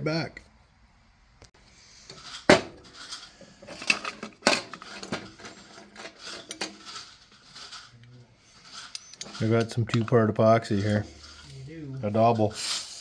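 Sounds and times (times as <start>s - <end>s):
metal objects clinking: 1.9s - 12.7s.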